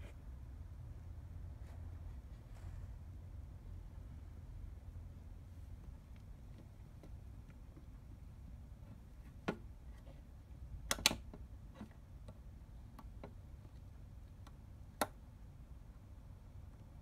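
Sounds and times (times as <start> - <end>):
faint low rumble: 0.0 - 17.0.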